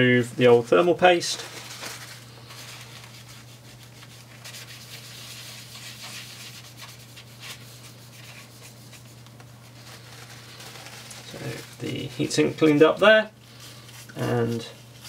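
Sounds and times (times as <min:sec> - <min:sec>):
steady low hum: 0:00.0 - 0:15.0
paper towel scrubbing metal: 0:00.3 - 0:15.0.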